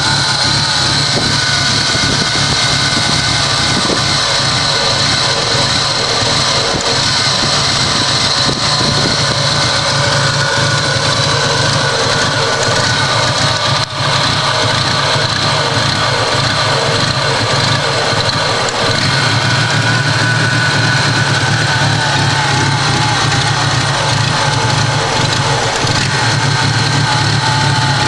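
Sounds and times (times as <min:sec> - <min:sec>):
car engine idling roughly: 0:00.0 - 0:28.0.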